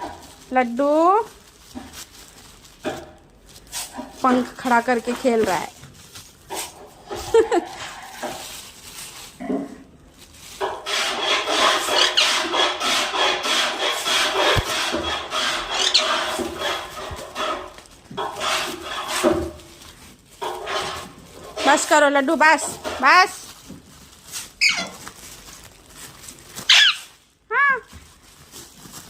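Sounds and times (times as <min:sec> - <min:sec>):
plastic bag rustling: 0:00.0 - 0:29.0.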